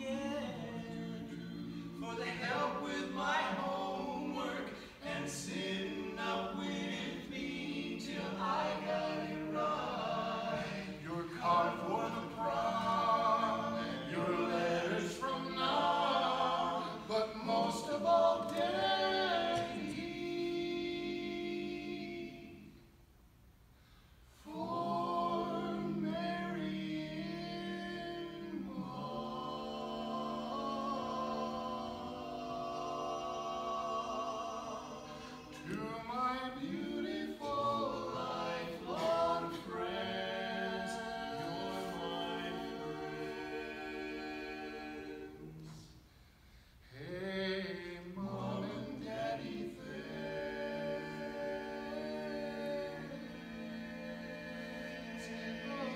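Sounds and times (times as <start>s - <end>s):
male quartet singing a cappella: 0.0s - 22.9s, 24.4s - 46.1s, 46.8s - 55.9s.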